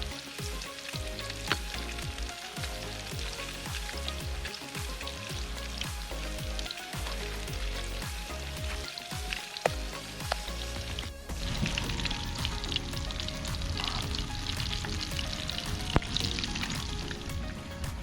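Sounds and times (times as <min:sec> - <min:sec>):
background music with bass beat: 0:00.0 - 0:18.0.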